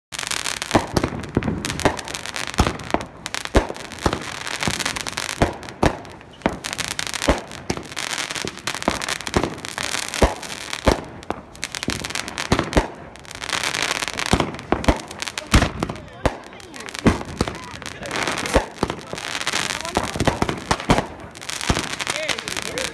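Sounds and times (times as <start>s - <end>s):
fireworks banging: 0.1s - 22.9s
fireworks hissing and crackling: 0.1s - 22.9s.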